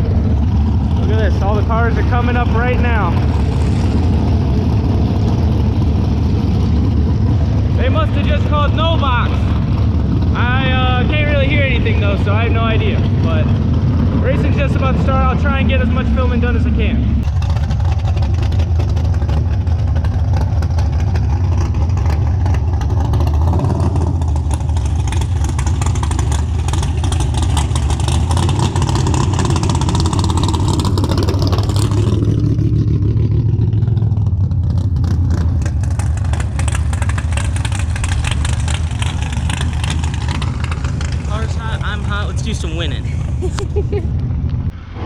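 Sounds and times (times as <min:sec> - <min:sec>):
racing car engines rumbling: 0:00.0 - 0:45.0.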